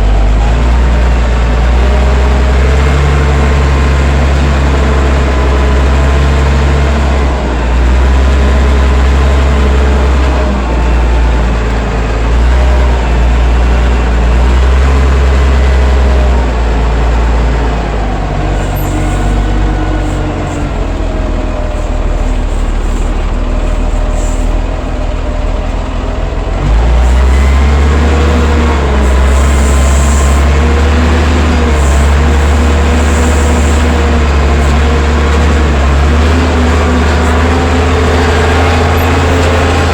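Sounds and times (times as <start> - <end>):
wheel loader engine under load: 0.0 - 39.9.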